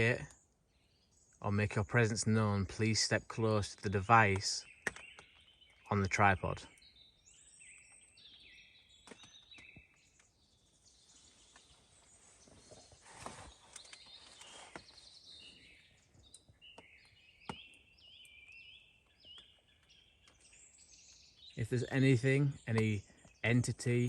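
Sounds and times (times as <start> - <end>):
faint bird chirping: 0.0 - 24.0.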